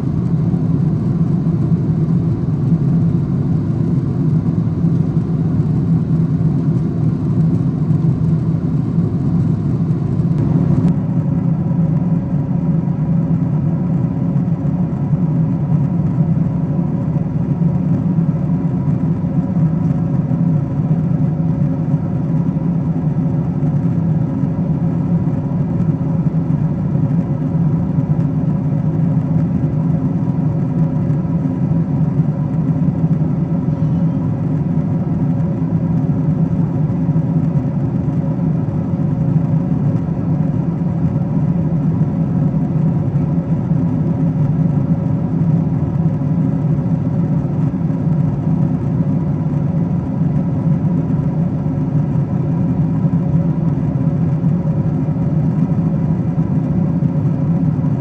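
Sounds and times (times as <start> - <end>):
airplane cabin drone: 0.0 - 58.0
faint steady hums: 0.0 - 58.0.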